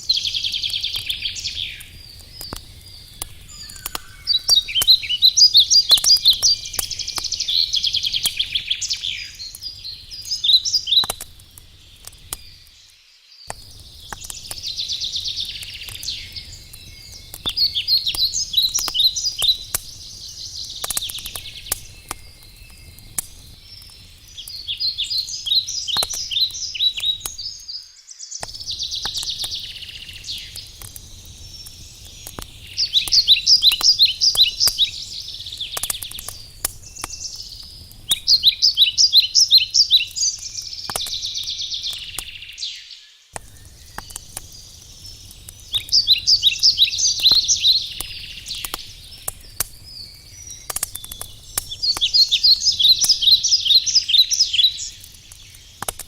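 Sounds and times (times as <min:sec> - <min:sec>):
wood fire crackling: 0:00.0 - 0:27.8, 0:28.4 - 0:42.7, 0:43.3 - 0:56.0
songbirds singing: 0:00.0 - 0:56.0.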